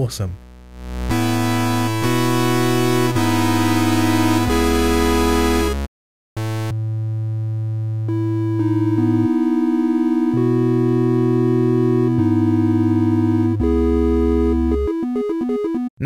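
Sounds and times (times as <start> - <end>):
synth playing held chords: 0.4 - 6.7, 8.1 - 15.8.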